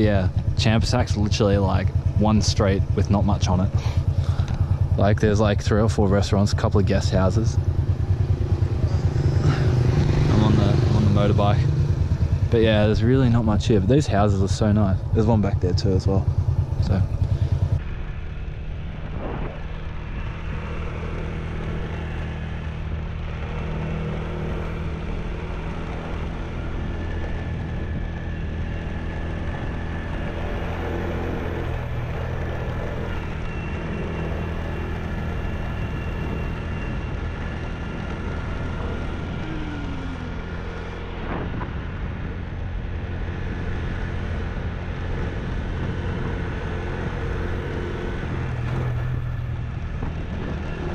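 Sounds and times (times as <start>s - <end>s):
road and wind noise: 0.0s - 50.9s
small motorbike engine running: 0.0s - 50.9s.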